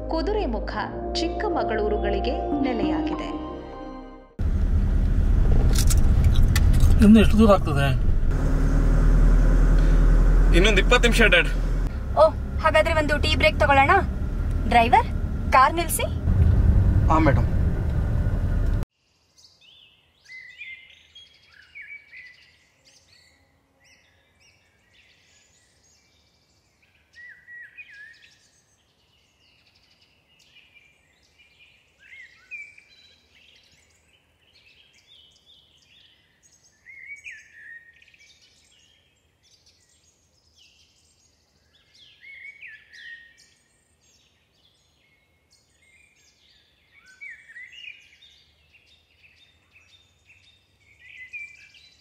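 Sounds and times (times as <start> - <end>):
wild birds chirping: 4.4 - 52.0.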